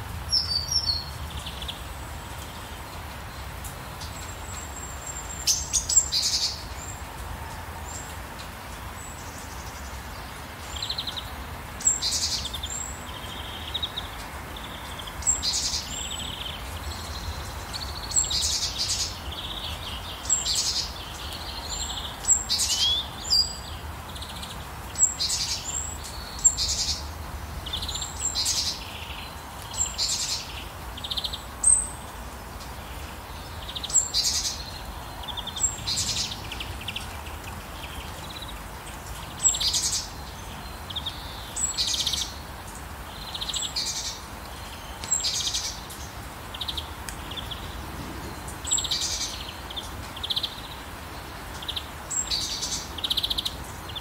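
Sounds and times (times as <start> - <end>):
birds chirping: 9.0 - 54.0.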